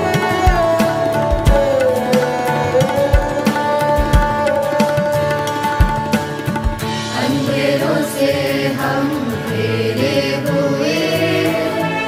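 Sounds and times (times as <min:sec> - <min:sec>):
drum strokes: 0:00.0 - 0:10.0
wordless sung melody: 0:00.0 - 0:12.0.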